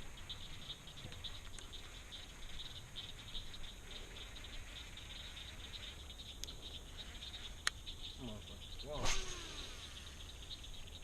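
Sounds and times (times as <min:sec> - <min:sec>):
chorus of small calling animals: 0:00.0 - 0:11.0.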